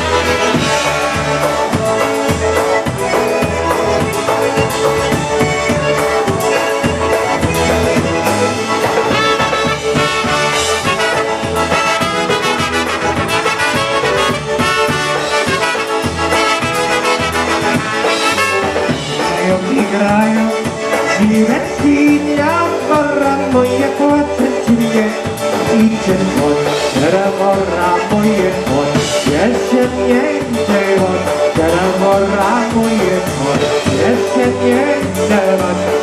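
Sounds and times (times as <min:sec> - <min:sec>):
live band playing dance tune: 0:00.0 - 0:36.0.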